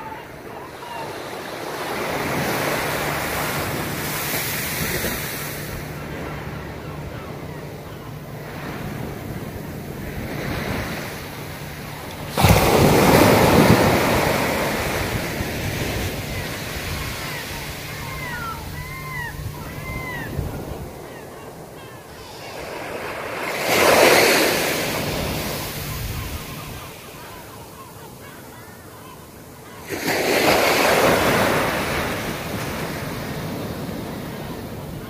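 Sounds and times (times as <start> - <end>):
small waves breaking on beach: 0.0 - 35.0.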